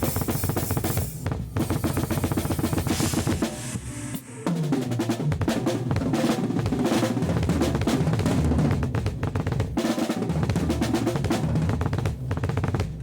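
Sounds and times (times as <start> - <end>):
snare and bass drum hits: 0.0 - 13.0.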